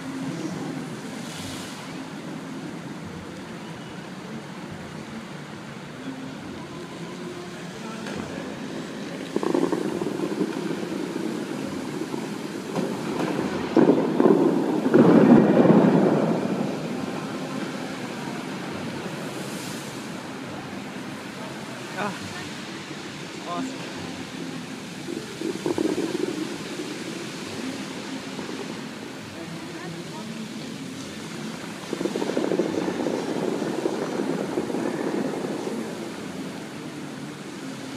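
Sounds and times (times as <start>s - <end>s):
fountain jets rushing and splashing: 0.0s - 37.9s.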